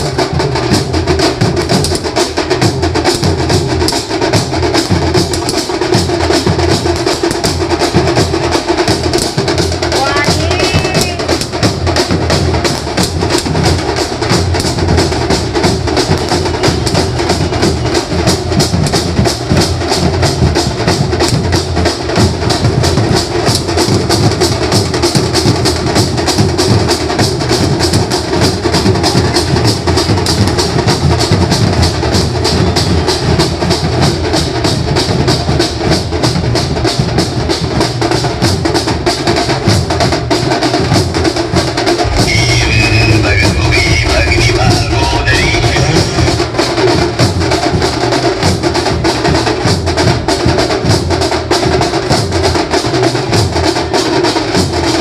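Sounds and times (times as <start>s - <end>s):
band playing festival music: 0.0s - 55.0s
fast steady drum beat: 0.0s - 55.0s.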